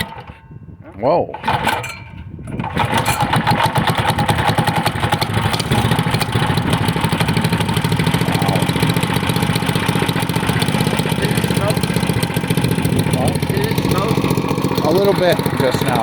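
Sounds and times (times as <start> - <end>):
mini bike engine idling: 2.6 - 16.0.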